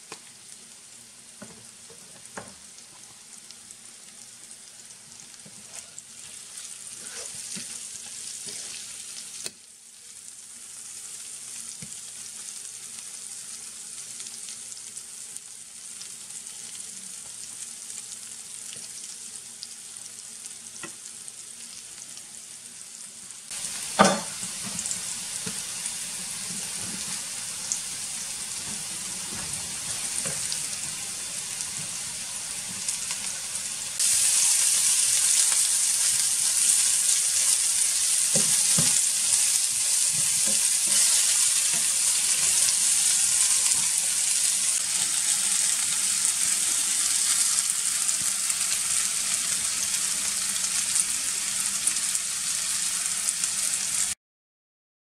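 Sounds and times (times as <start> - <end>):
potatoes sizzling in oil: 0.0 - 54.2.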